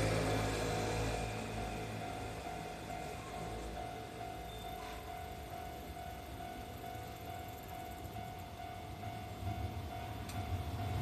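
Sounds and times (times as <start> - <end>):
level-crossing alarm ringing: 0.0 - 11.0.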